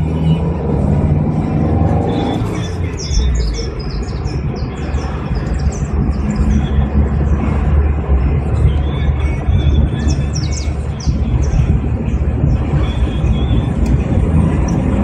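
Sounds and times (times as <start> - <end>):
birds chirping: 0.0 - 15.0
car engine rumbling: 0.0 - 15.0.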